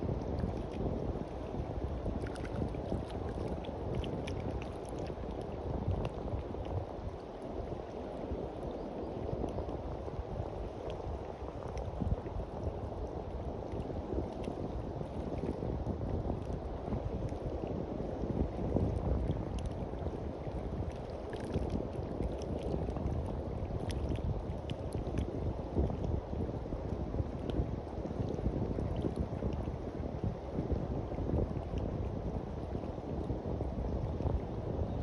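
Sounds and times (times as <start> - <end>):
sea waves washing on beach: 0.0 - 35.0
wind buffeting microphone: 0.0 - 35.0.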